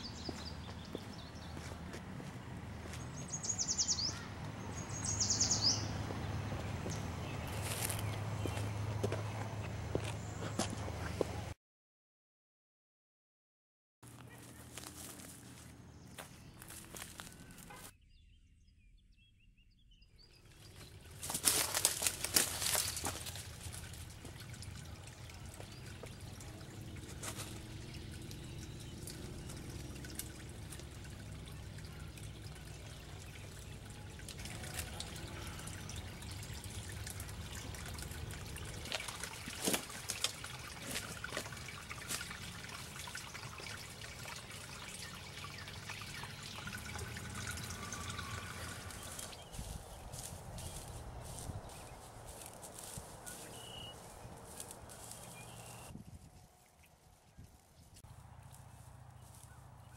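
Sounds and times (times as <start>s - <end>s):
stream trickling: 0.0s - 11.2s, 14.1s - 17.9s, 20.2s - 59.9s.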